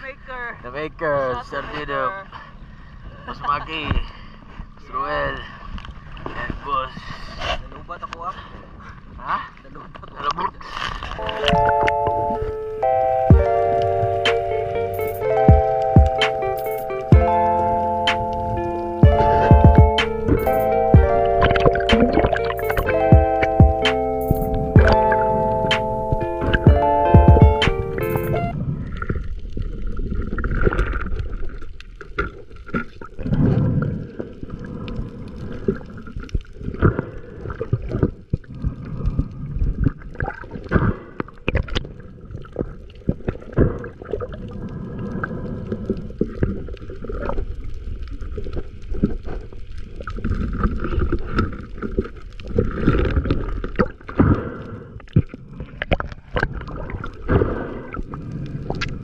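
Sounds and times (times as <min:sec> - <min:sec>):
underwater clicks and crackles: 0:05.7 - 0:06.8, 0:09.8 - 0:26.7, 0:27.6 - 0:59.0.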